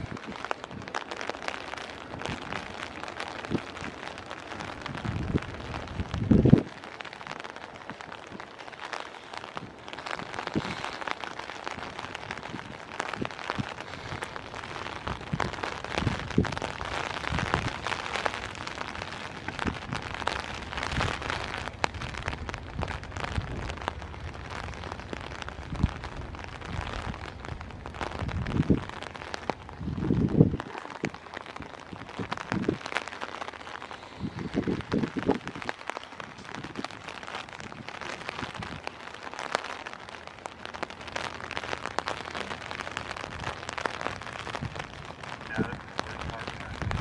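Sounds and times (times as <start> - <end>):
rain hiss: 0.0 - 47.0
raindrops ticking on umbrella: 0.0 - 47.0.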